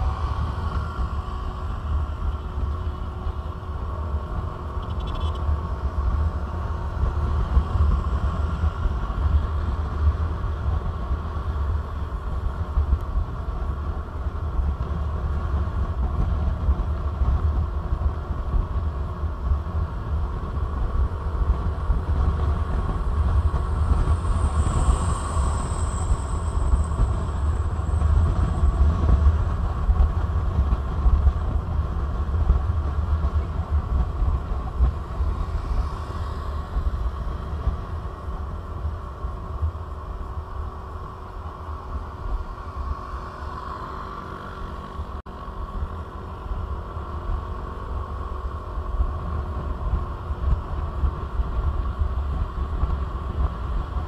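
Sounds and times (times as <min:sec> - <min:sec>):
motorcycle engine and road drone: 0:00.0 - 0:54.0
wind rumble: 0:00.0 - 0:54.0.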